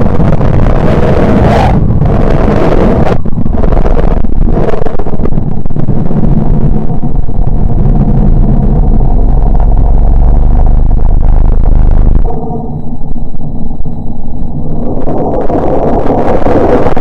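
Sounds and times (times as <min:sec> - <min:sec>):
deep rumbling drone: 0:00.0 - 0:17.0.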